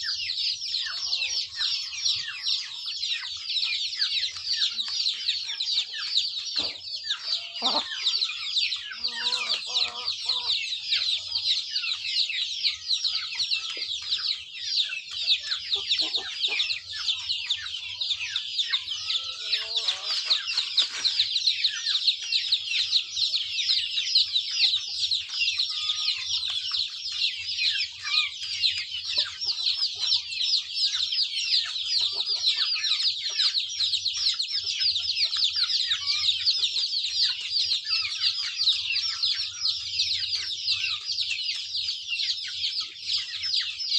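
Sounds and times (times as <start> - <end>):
chickens chirping: 0.0 - 43.9
chickens clucking: 0.0 - 43.9.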